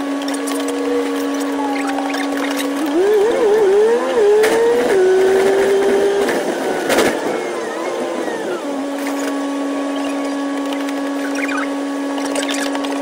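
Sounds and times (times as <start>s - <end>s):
bus engine whine: 0.0s - 12.9s.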